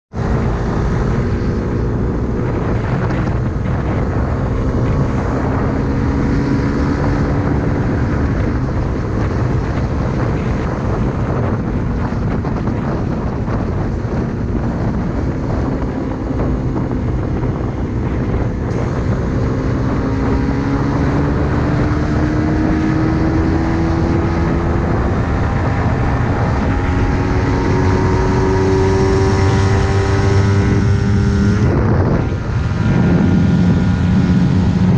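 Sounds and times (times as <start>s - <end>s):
motorcycle engine running: 0.1s - 34.9s
wind noise on microphone: 0.1s - 34.9s.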